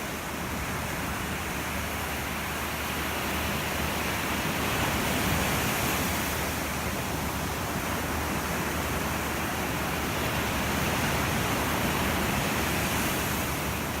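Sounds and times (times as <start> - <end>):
sea waves on a beach: 0.0 - 14.0.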